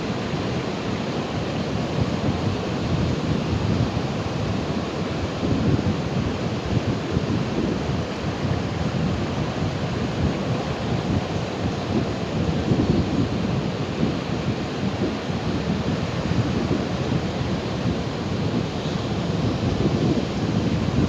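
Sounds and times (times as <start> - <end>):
ocean waves washing: 0.0 - 21.0.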